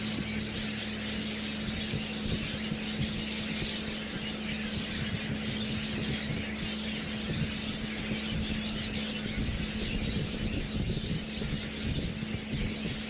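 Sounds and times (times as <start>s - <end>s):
budgies chattering and chirping: 0.0s - 13.0s
constant low hum: 0.0s - 13.0s.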